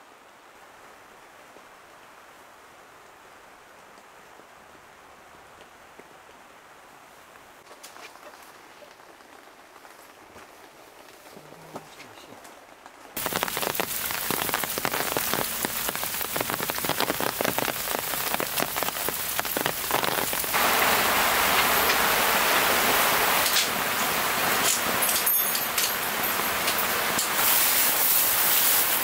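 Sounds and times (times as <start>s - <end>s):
rain: 0.0s - 29.0s.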